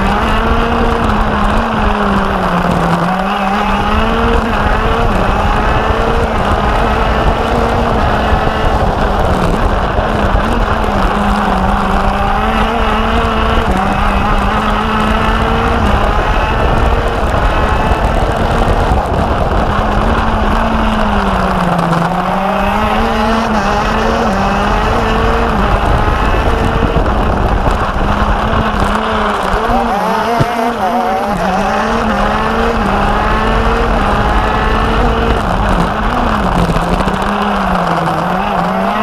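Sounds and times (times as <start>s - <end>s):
kart engine revving: 0.0s - 39.0s.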